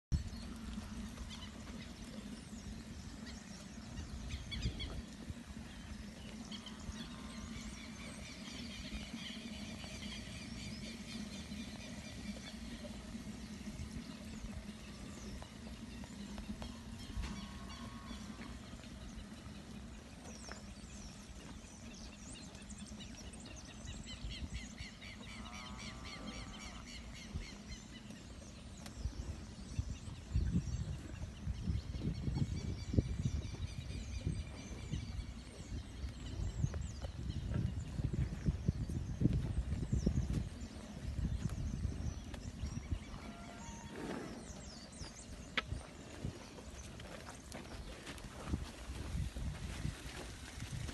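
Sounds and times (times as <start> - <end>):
birds chirping: 0.2 - 50.9.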